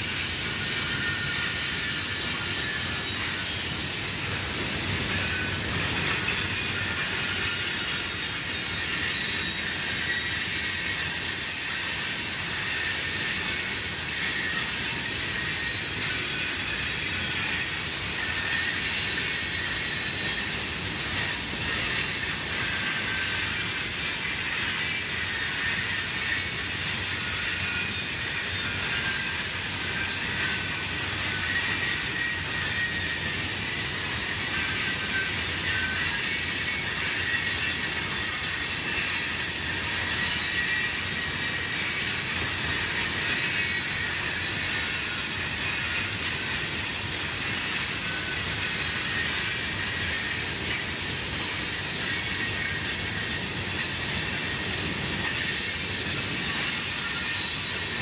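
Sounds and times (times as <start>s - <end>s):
train cars rolling on rails: 0.0s - 58.0s.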